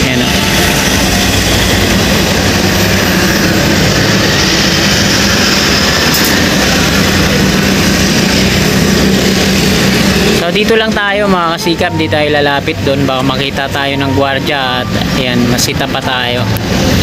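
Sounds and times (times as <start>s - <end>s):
vibratory pile hammer drone: 0.0s - 17.0s.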